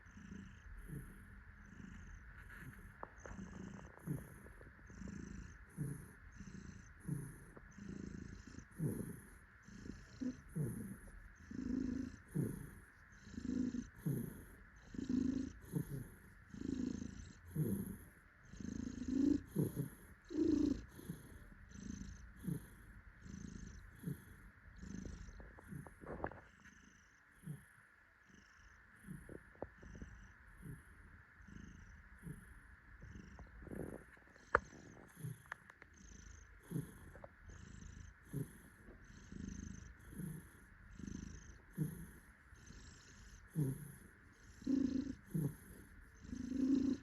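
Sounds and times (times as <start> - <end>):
cat purring: 0.0 - 47.0.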